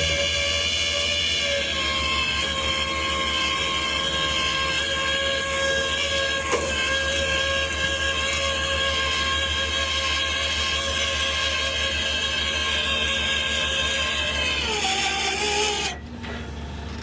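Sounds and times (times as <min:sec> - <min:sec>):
steady high whine: 0:00.0 - 0:17.0
truck engine rumble: 0:00.0 - 0:17.0.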